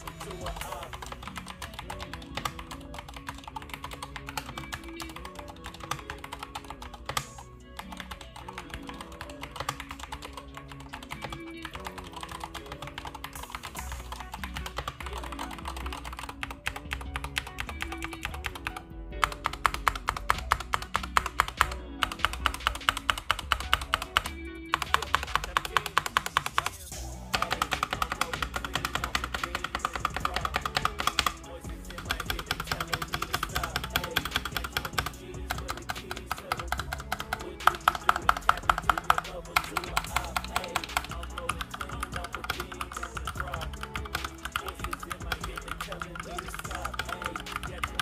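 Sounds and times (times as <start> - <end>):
background music: 0.0 - 48.0.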